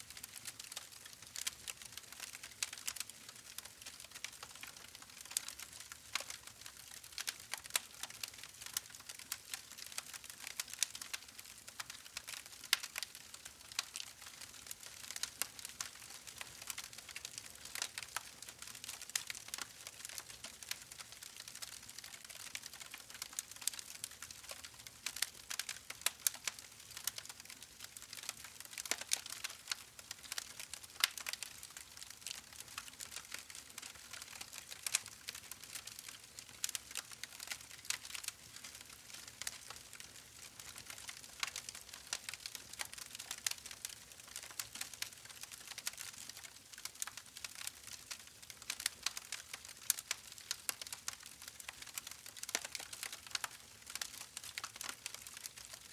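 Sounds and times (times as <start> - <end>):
wood fire crackling and popping: 0.1 - 55.9.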